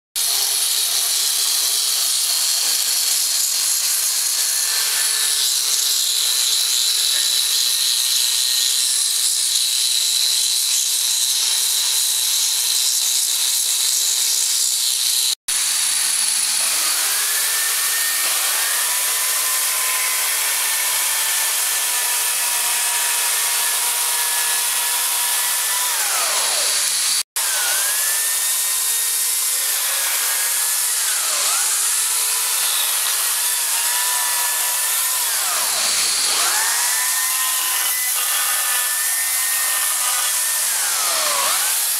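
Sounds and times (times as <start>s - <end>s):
electric belt cutter grinding wood: 0.2s - 41.9s
electric chainsaw carving log: 0.2s - 41.9s.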